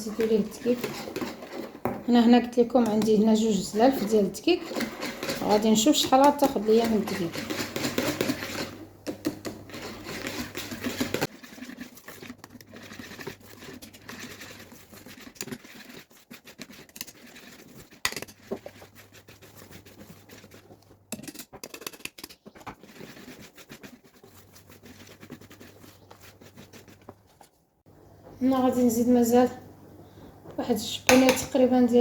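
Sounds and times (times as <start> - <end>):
utensil scraping batter in bowl: 0.0 - 27.6.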